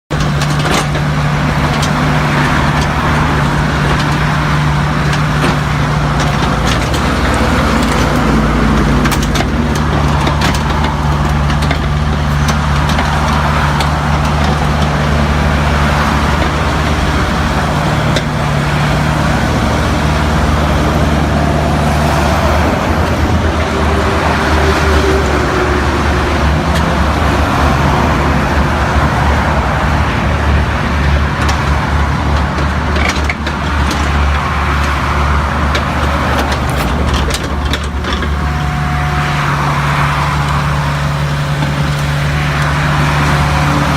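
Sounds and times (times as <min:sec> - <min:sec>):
large diesel engine running: 0:00.0 - 0:43.9.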